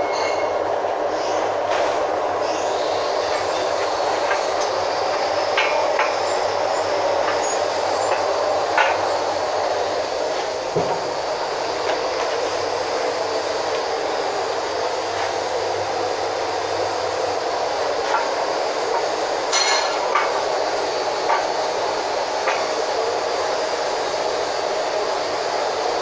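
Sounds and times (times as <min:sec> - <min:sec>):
steady rushing noise: 0:00.7 - 0:26.0.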